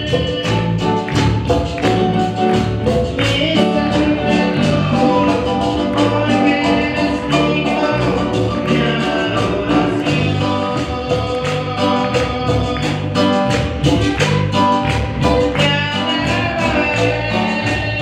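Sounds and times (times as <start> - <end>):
person singing: 0.0 - 18.0
worship band music: 0.0 - 18.0.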